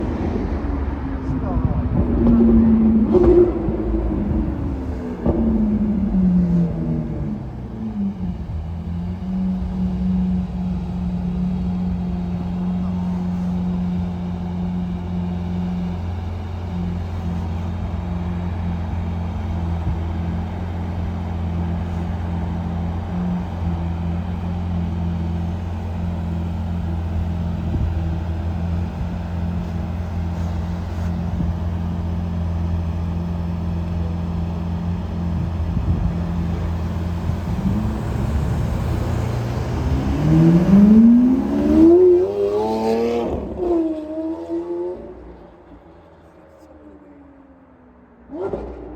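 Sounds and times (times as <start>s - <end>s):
car engine idling: 0.0s - 41.6s
car engine revving: 0.0s - 46.0s, 48.3s - 48.9s.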